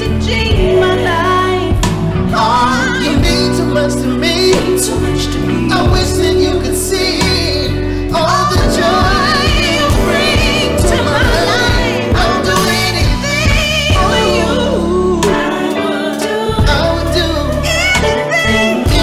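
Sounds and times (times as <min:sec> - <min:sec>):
backing music with bass: 0:00.0 - 0:19.0
person singing with vibrato: 0:00.0 - 0:19.0.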